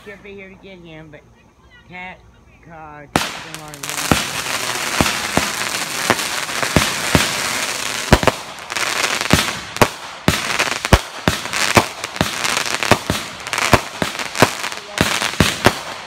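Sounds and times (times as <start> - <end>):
fireworks crackling: 0.0 - 16.0
fireworks bangs: 3.0 - 16.0.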